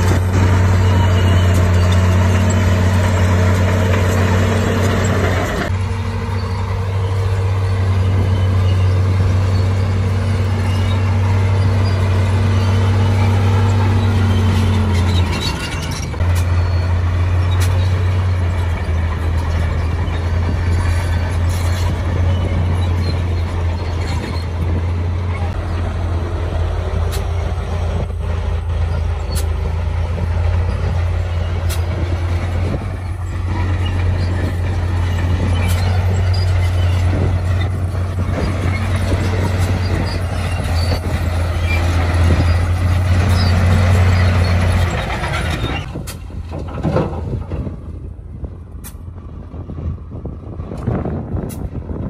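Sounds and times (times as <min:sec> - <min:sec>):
diesel machinery engine drone: 0:00.0 - 0:52.0.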